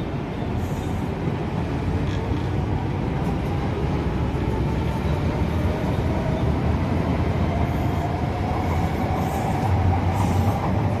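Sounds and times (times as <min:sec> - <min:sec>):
faint train whine: 0:00.0 - 0:11.0
train wheels rumbling on rail: 0:00.0 - 0:11.0.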